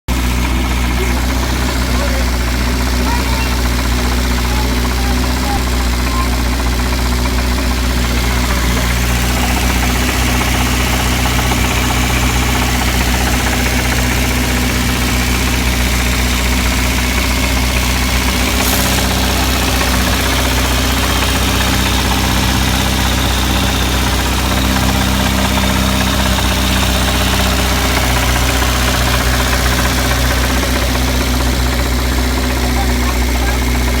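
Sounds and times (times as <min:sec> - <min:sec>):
car engine idling with a knock: 0:00.1 - 0:34.0.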